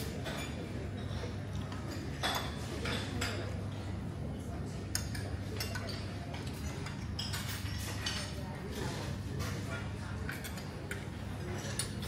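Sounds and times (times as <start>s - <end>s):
cutlery and china clinking: 0.0s - 3.6s, 4.8s - 12.0s
faint background chatter: 0.0s - 12.0s.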